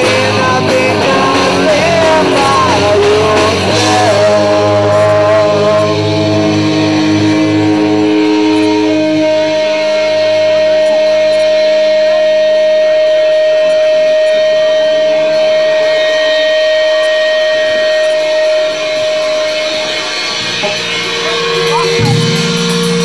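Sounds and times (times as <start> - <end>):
electric guitar feedback tone: 0.0 - 23.0
rock band chord ringing out: 0.0 - 23.0.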